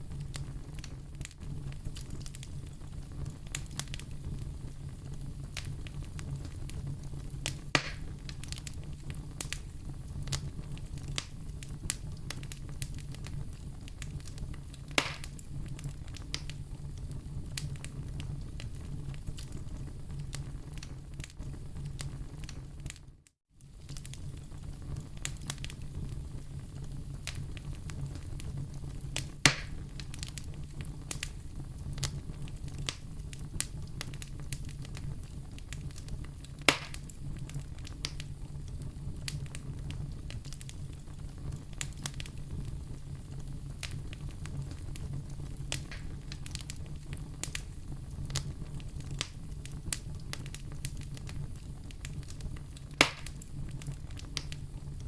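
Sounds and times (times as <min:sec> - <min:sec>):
fireplace fire crackling: 0:00.0 - 0:55.0
loud fire pops: 0:00.0 - 0:55.0.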